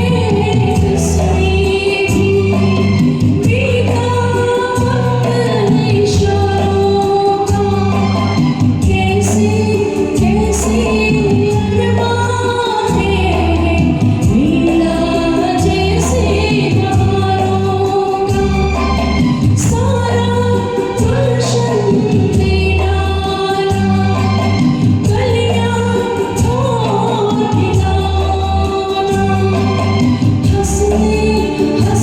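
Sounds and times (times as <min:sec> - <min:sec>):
karaoke backing track: 0:00.0 - 0:32.0
woman singing: 0:00.0 - 0:32.0.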